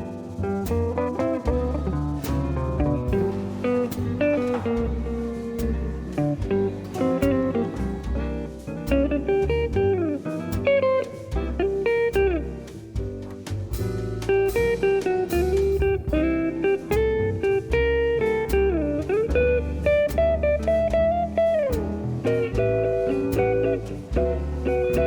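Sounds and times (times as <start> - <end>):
guitar solo with bent notes: 0.0 - 13.0, 14.3 - 25.0
bass and drums: 0.0 - 25.0.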